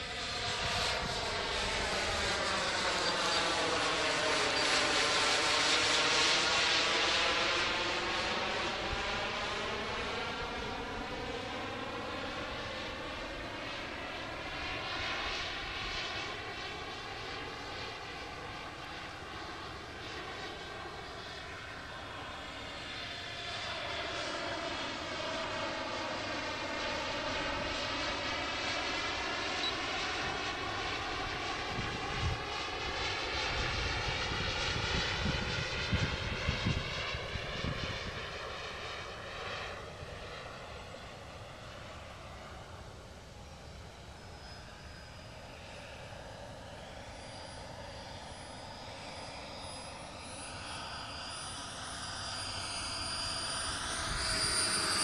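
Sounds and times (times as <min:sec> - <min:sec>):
model jet turbine whining: 0:00.0 - 0:55.0.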